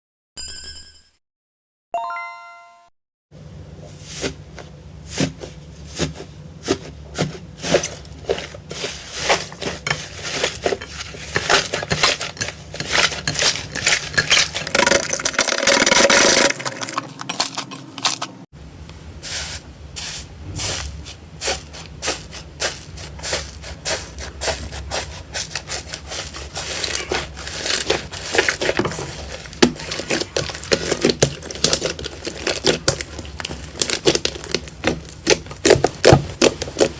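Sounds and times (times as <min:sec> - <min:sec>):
slime crackling and squelching: 0:05.1 - 0:18.5, 0:20.0 - 0:36.9.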